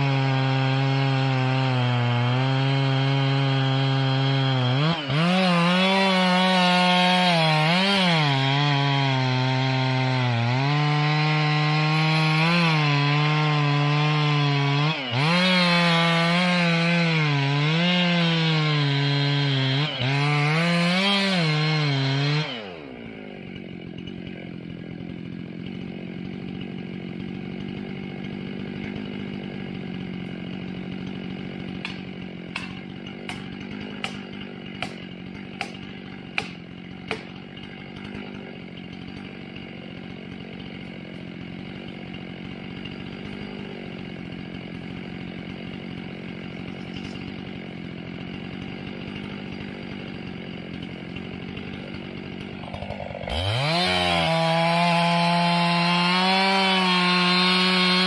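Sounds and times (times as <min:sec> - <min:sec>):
chainsaw cutting wood: 0:00.0 - 0:58.0
chainsaw idling: 0:00.0 - 0:58.0.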